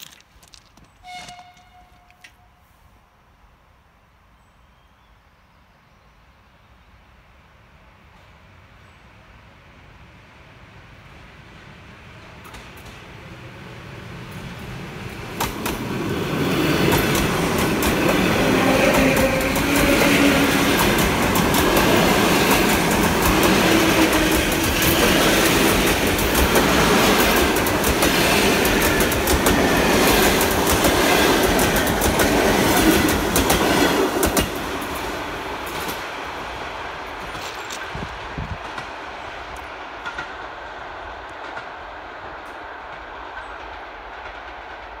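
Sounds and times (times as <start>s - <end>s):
electric train passing: 7.0s - 45.0s.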